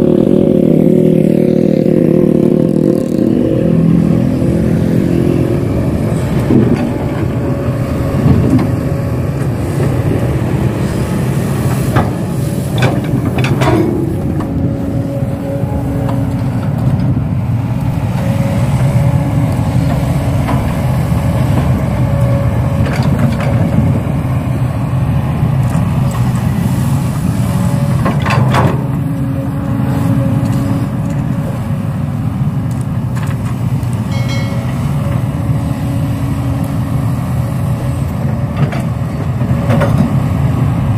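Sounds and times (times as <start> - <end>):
large engine running: 0.0 - 40.9.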